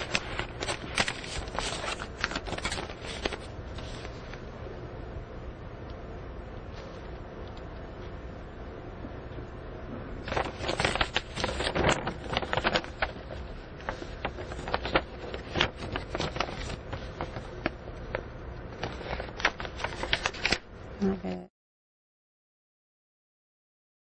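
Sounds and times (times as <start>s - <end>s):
low steady hum: 0.0s - 21.5s.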